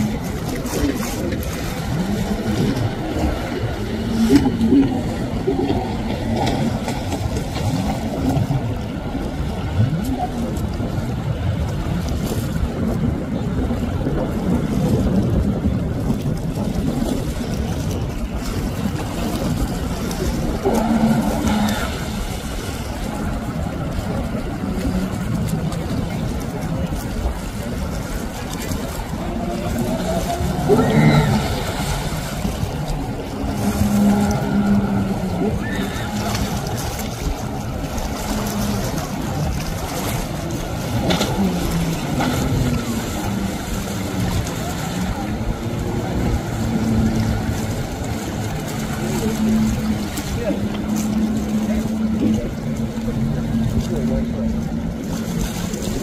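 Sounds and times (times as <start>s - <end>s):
jet ski engine running: 0.0s - 56.0s
rumble of water: 0.0s - 56.0s
wind: 0.0s - 56.0s.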